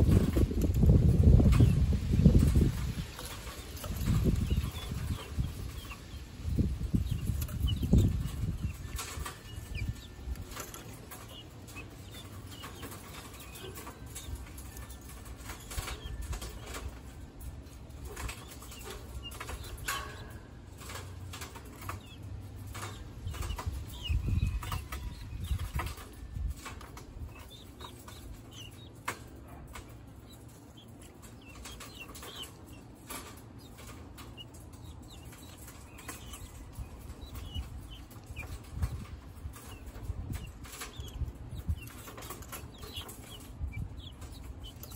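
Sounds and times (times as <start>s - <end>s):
sharp pecking clicks: 2.5s - 44.9s.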